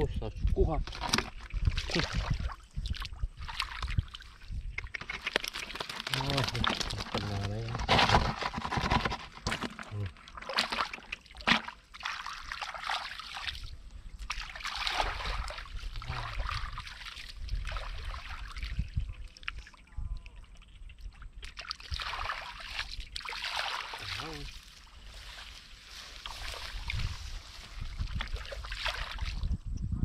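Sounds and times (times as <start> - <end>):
muddy water splashing: 0.8 - 29.6.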